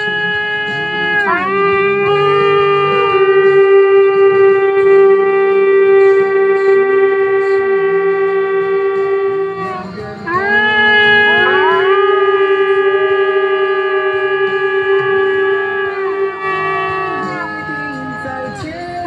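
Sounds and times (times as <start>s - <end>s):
ram's horn blast: 0.0s - 19.0s.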